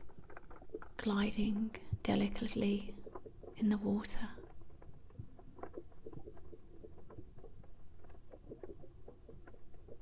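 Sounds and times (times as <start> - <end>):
water bubbling and lapping: 0.0 - 10.0.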